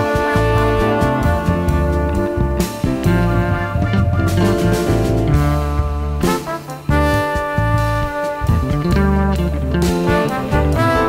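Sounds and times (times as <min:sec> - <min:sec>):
jazzy music with brass: 0:00.0 - 0:11.0.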